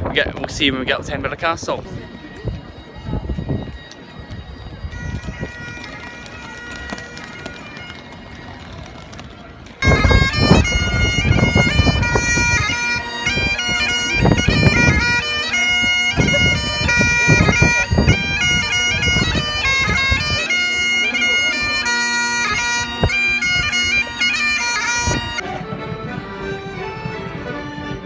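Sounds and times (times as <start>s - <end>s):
wind buffeting microphone: 0.0s - 28.0s
bagpipes playing: 0.8s - 28.0s.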